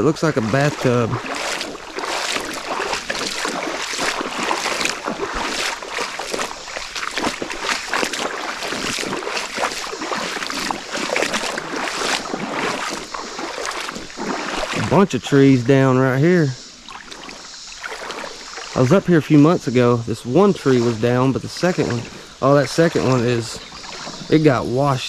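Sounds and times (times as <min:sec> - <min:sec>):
flowing water: 0:00.0 - 0:25.0
footsteps splashing in water: 0:00.0 - 0:25.0.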